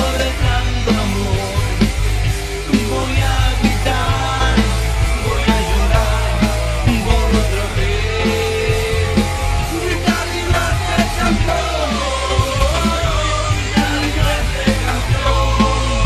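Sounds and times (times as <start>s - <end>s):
football song with drums and bass: 0.0s - 16.0s.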